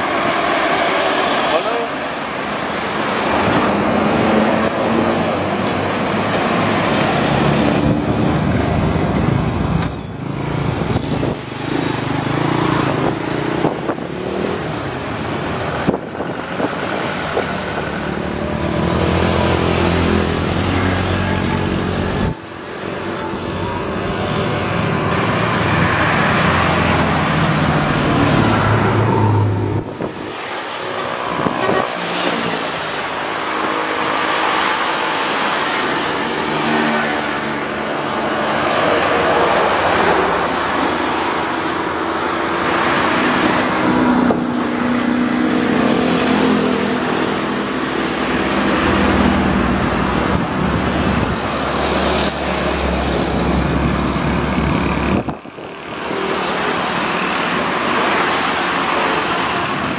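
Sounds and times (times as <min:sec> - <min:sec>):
heavy vehicles passing: 0:00.0 - 0:59.9.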